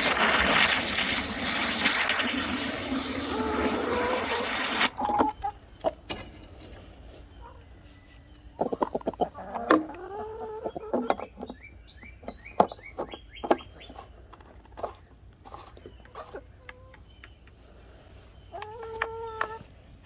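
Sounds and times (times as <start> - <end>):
hens clucking and calling: 3.1 - 20.0.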